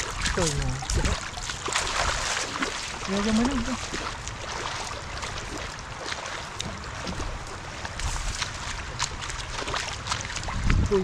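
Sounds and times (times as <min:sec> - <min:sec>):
feet splashing through water: 0:00.0 - 0:11.0
floodwater rushing across road: 0:00.0 - 0:11.0
wind rumble on microphone: 0:00.0 - 0:11.0.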